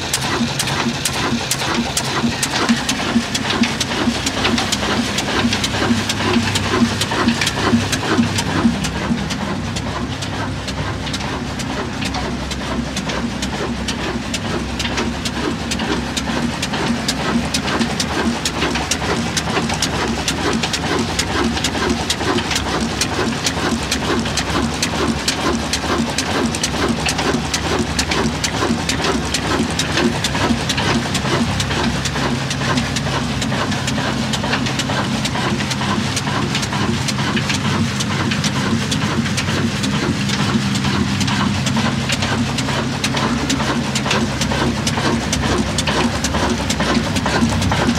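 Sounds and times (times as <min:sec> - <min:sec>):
diesel engine clattering: 0:00.0 - 0:47.9.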